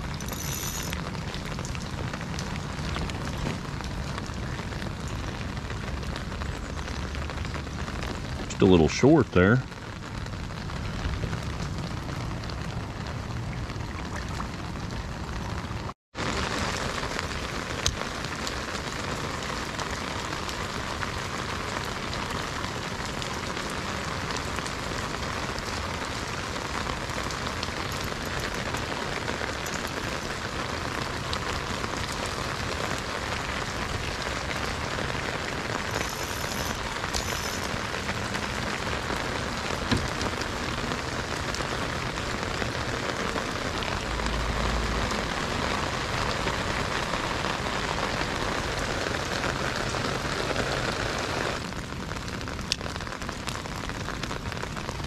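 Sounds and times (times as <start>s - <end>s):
rain falling on lake: 0.0s - 55.0s.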